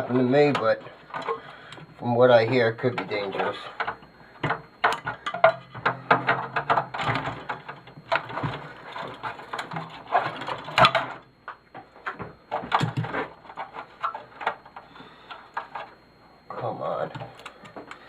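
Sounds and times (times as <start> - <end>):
metal and plastic clicking and scraping: 0.1 - 16.0, 17.1 - 18.0.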